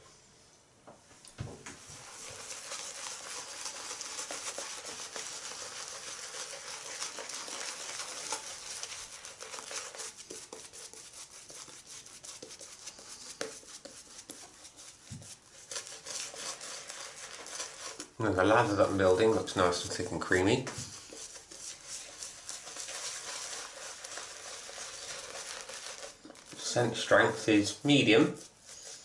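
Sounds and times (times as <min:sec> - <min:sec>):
shaving brush swishing through lather: 0:01.8 - 0:29.0.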